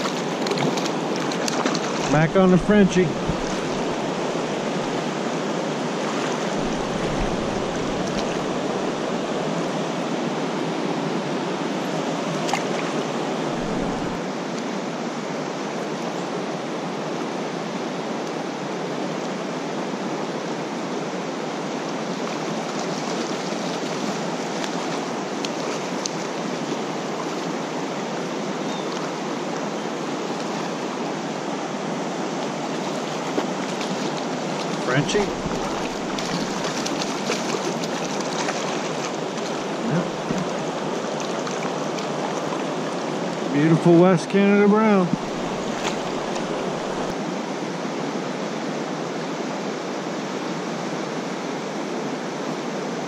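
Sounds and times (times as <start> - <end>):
creek water rushing: 0.0 - 53.0.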